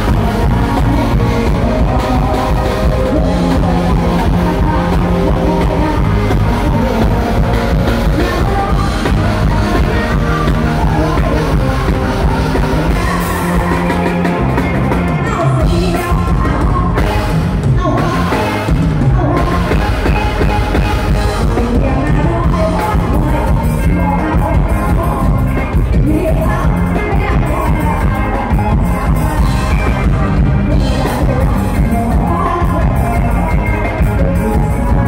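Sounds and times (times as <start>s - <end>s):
live band music: 0.0s - 35.0s
person singing: 0.0s - 35.0s.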